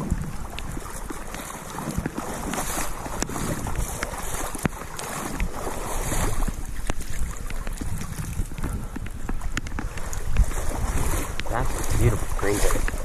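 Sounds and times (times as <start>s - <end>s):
boots splashing through water: 0.0s - 13.0s
wind buffeting microphone: 0.0s - 13.0s.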